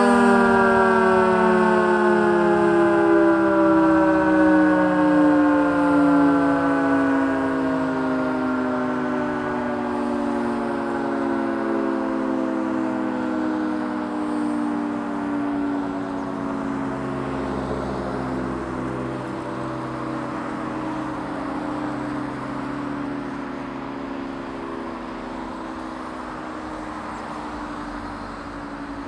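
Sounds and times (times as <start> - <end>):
emergency siren wailing: 0.0 - 29.0.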